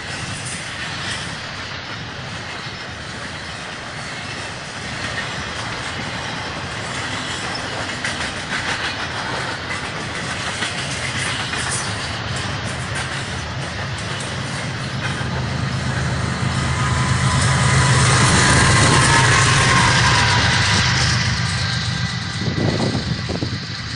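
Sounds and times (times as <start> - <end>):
diesel locomotive engine hum: 0.0 - 23.9
train wheels clicking over rails: 0.0 - 23.9.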